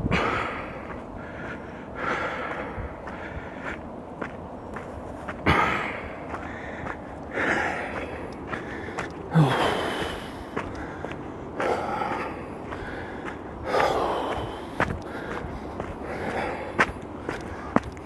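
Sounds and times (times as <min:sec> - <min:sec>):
person breathing heavily: 0:00.0 - 0:04.2, 0:05.2 - 0:18.0.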